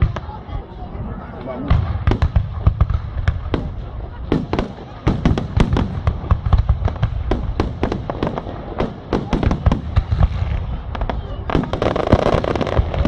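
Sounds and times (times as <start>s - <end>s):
fireworks bangs: 1.6s - 13.0s.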